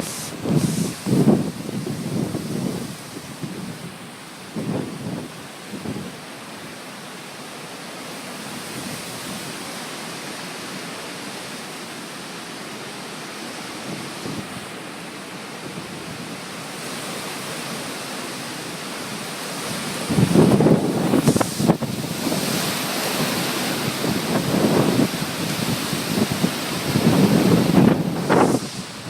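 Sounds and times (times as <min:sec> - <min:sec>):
heavy rain: 0:00.0 - 0:29.0
wind: 0:00.0 - 0:29.0.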